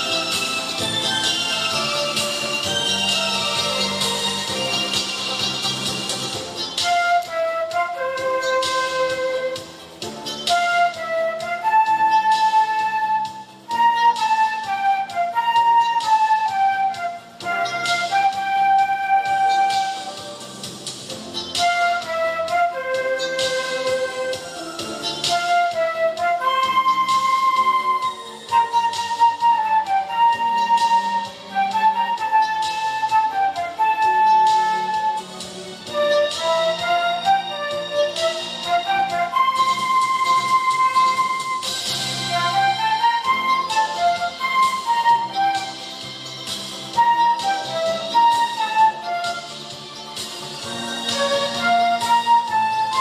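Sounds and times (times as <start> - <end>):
flute playing slow melody: 0.0 - 53.0
instrumental accompaniment: 0.0 - 53.0.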